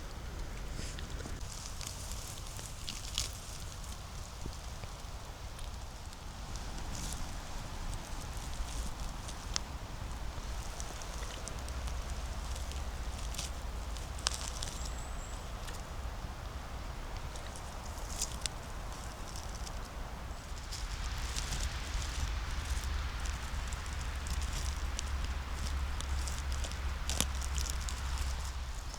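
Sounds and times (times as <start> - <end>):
twigs snapping: 0.4 - 28.9
footsteps crunching through dry leaves: 0.7 - 28.9.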